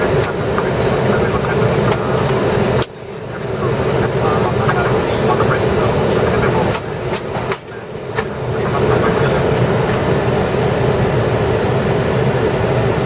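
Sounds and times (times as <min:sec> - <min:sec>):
aircraft cockpit airflow and engines: 0:00.0 - 0:13.0.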